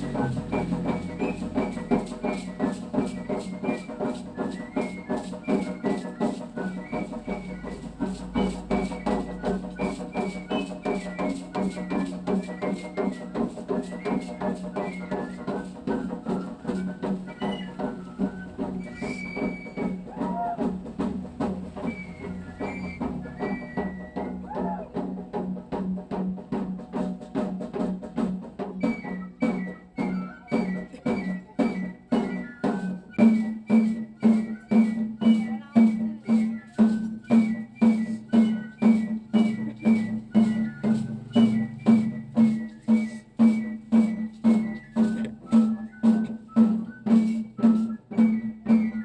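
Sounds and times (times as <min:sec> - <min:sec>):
drum and shaken rattles: 0:00.0 - 0:49.0.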